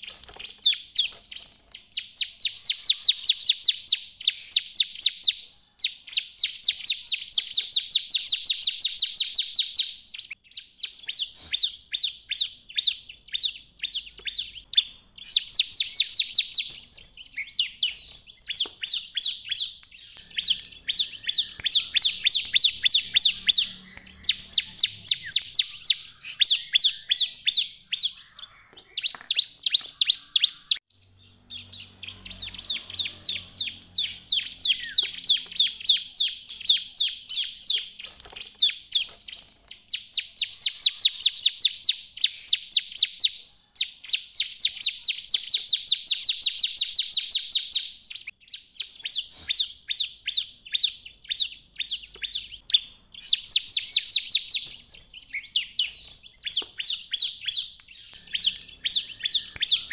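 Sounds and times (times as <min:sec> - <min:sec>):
bird singing rapid high chirps: 0:00.0 - 0:59.9.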